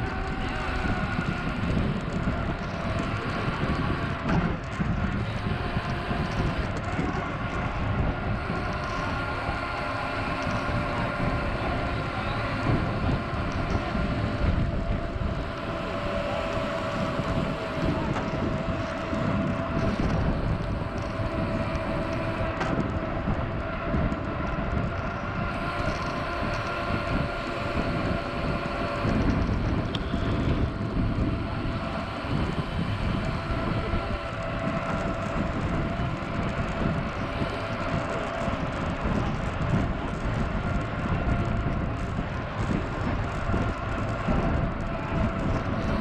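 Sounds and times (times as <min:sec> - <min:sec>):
bike rattling: 0:00.0 - 0:46.0
faint steady hum: 0:00.0 - 0:46.0
wind and tyres rumbling: 0:00.0 - 0:46.0.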